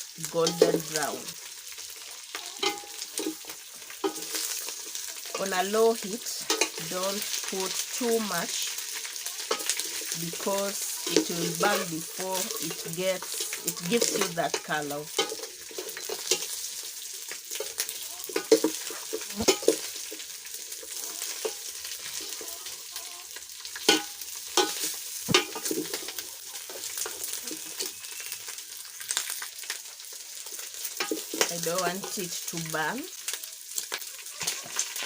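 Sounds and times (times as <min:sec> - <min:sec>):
chicken sizzling in fat: 0:00.0 - 0:35.0
pieces knocking and scraping in pot: 0:00.2 - 0:29.5, 0:30.4 - 0:32.8.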